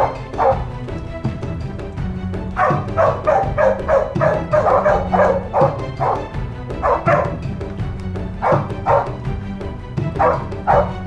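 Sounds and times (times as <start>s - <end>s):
dogs barking: 0.0s - 1.1s, 2.5s - 11.0s
music: 0.0s - 11.0s.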